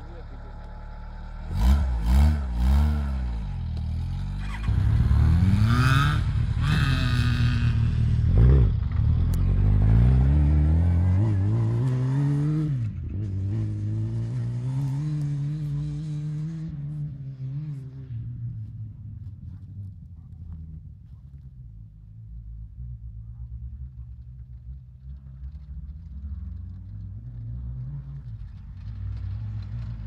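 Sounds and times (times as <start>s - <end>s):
buggy engine revving: 0.0s - 18.7s, 19.5s - 30.0s.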